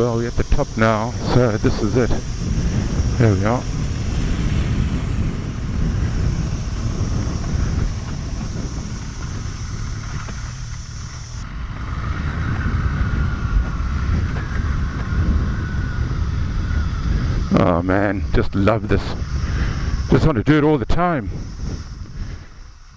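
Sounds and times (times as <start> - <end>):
motorcycle engine running: 0.0 - 20.2
wind buffeting microphone: 0.0 - 22.9.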